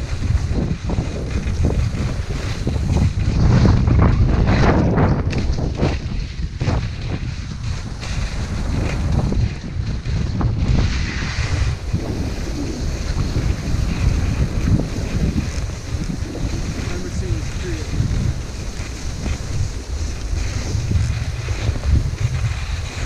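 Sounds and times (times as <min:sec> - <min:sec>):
skis scraping over packed snow: 0:00.0 - 0:23.0
wind buffeting microphone: 0:00.0 - 0:23.0.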